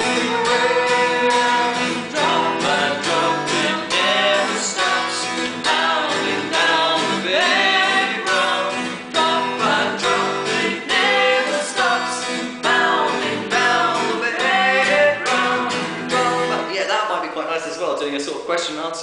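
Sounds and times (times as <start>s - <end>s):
person singing: 0.0s - 16.8s
acoustic guitar strumming: 0.0s - 18.0s.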